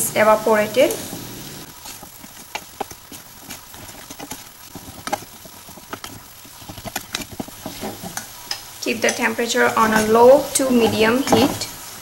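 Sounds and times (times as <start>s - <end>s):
faint sizzling: 0.0s - 12.0s
spatula scraping a metal pot: 1.1s - 8.4s, 9.0s - 11.8s.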